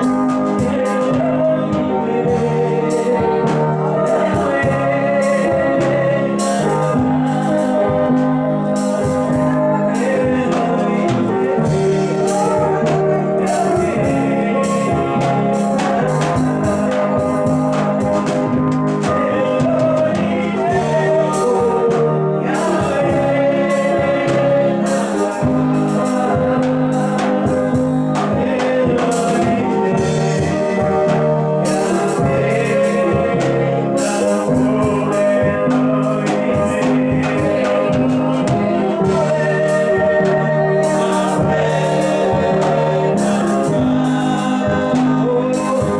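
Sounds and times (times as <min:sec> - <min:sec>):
gospel singing with accompaniment: 0:00.0 - 0:45.9.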